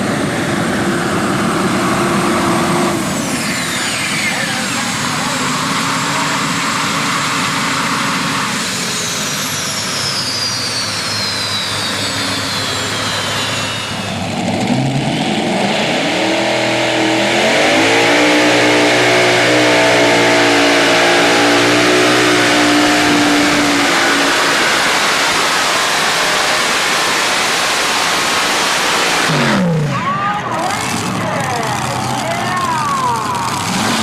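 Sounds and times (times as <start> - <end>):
high whine: 0.0 - 30.5
truck engine revving: 0.0 - 34.0.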